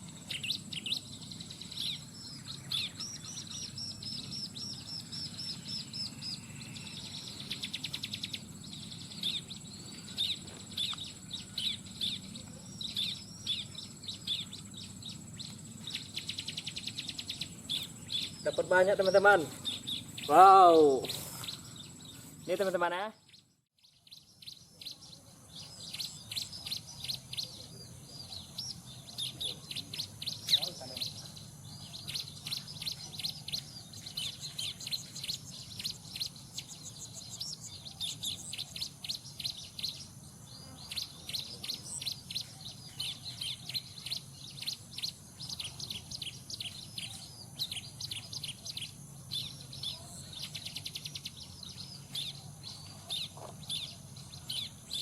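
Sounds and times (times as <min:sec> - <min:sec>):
bird high chirps: 0:00.0 - 0:55.0.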